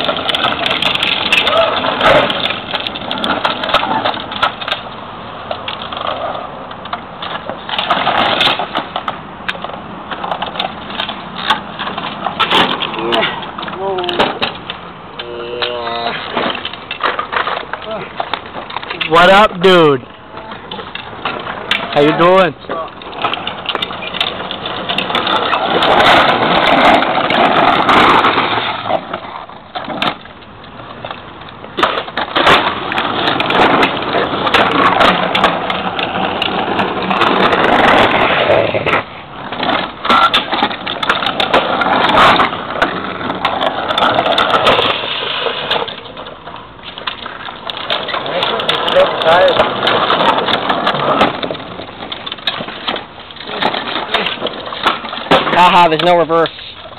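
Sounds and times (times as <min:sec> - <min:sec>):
wheels rolling on asphalt: 0:00.0 - 0:56.9.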